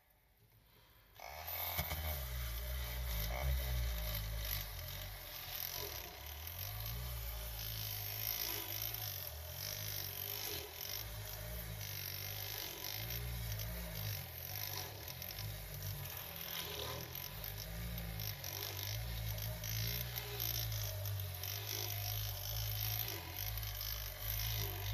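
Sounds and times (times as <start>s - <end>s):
rotary brush scrubbing wet rug: 1.7s - 24.9s.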